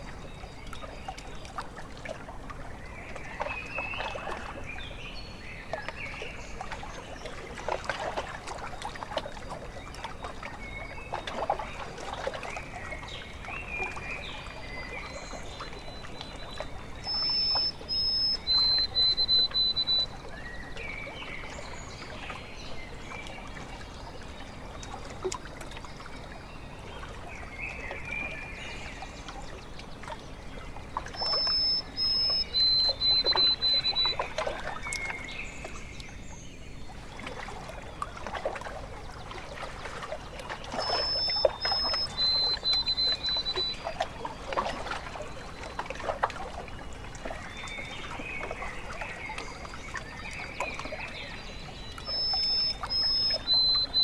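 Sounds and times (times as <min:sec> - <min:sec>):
water lapping at shore: 0:00.0 - 0:54.0
songbird singing: 0:02.4 - 0:54.0.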